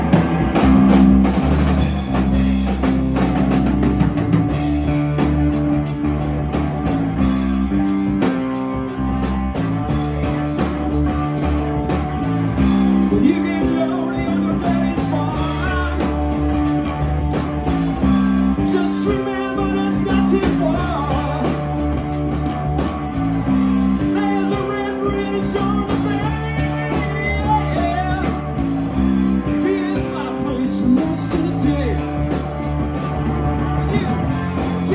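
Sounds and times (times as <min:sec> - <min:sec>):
bass guitar: 0:00.0 - 0:34.9
drum kit beat: 0:00.0 - 0:34.9
electric guitar: 0:00.0 - 0:34.9.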